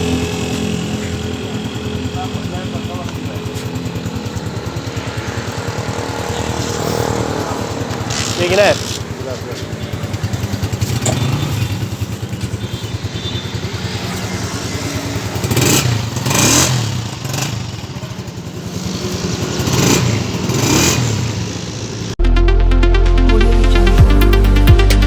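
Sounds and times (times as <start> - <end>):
motorcycle engine running: 0.0 - 22.2.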